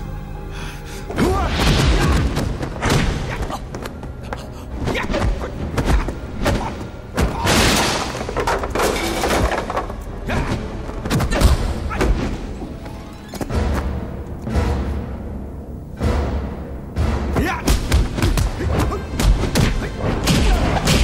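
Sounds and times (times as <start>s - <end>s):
dramatic background music: 0.0s - 21.0s.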